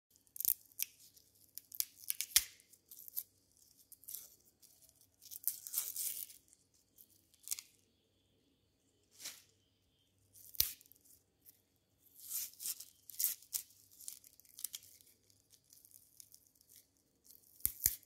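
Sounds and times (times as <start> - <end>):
onion skin crackling and tearing: 0.1 - 7.8, 10.3 - 18.0.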